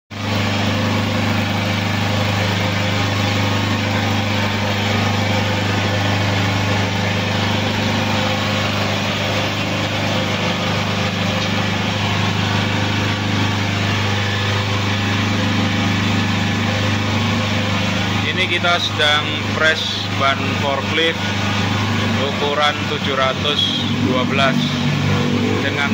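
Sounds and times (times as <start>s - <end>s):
electric pump motor humming: 0.1s - 25.9s.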